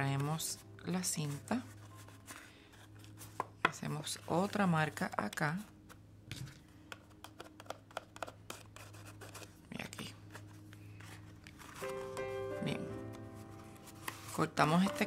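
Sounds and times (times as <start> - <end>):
background music: 0.0 - 6.2, 7.3 - 15.0
paper box being handled: 1.2 - 12.4, 13.4 - 15.0.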